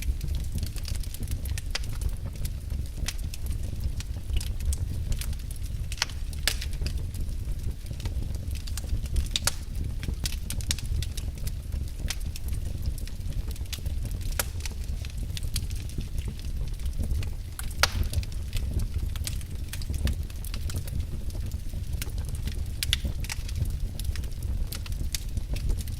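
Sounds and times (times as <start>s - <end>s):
steady low rumble: 0.0s - 25.9s
wood fire crackling and popping: 0.0s - 25.9s.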